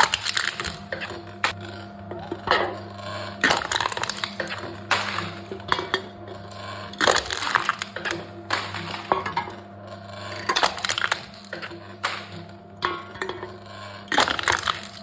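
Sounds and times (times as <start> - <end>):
machine crushing cans: 0.0 - 15.0.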